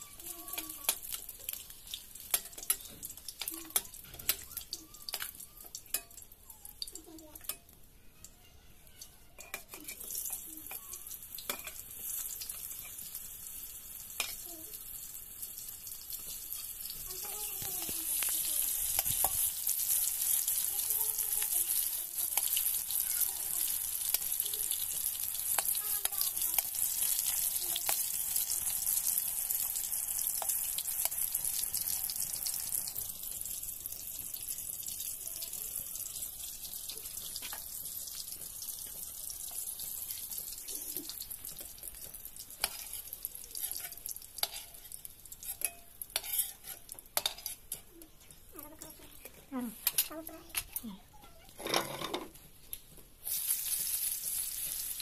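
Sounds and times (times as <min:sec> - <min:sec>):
eggs sizzling in hot oil: 0:00.0 - 0:55.0.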